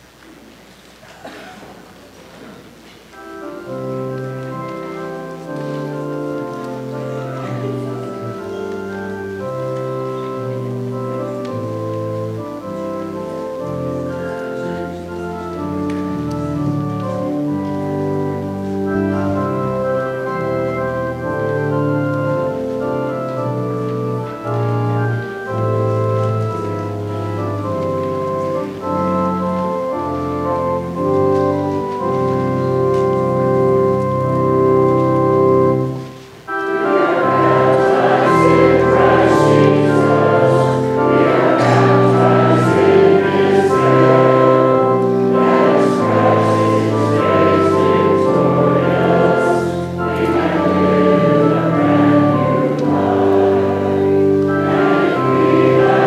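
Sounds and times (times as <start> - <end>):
congregation singing a hymn: 2.4 - 56.0
church organ playing chords: 2.7 - 56.0.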